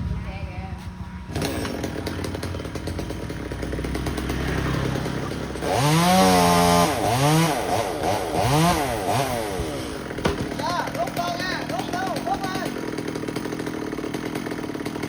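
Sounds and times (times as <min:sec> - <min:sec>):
chainsaw engine revving: 0:01.3 - 0:15.0.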